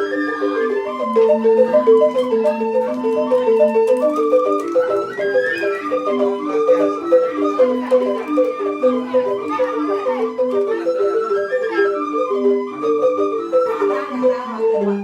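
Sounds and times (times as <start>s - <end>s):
bamboo xylophone playing: 0.0s - 15.0s
flute melody: 0.0s - 15.0s.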